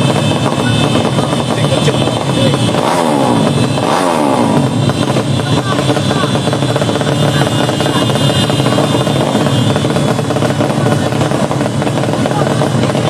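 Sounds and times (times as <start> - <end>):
racing motorcycle engine running: 0.0 - 13.0.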